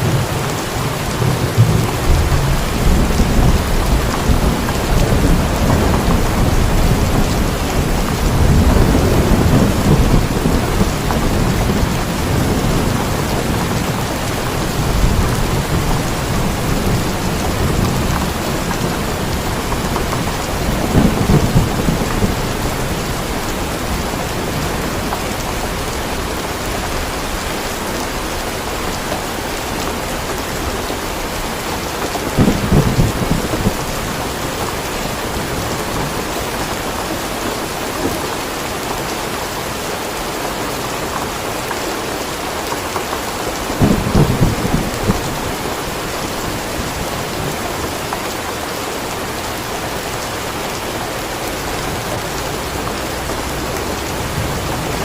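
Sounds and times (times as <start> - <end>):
thunder rumbling: 0.0 - 39.2, 43.1 - 55.0
heavy rain: 0.0 - 55.0.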